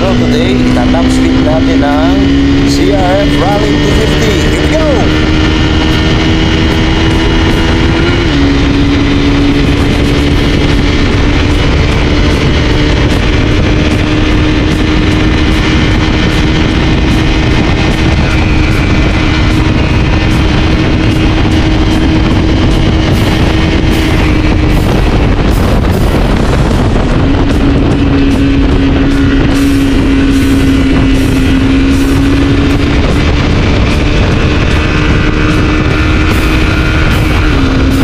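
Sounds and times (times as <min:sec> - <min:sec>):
motorcycle engine revving high: 0:00.0 - 0:38.0
wind rushing over microphone: 0:00.0 - 0:38.0.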